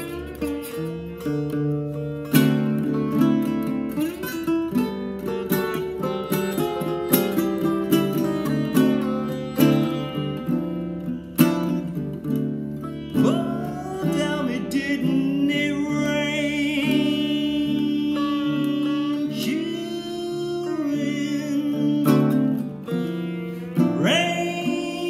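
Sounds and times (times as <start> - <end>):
sitar notes bending: 0.0 - 25.0
ukulele plucked chords: 0.0 - 25.0.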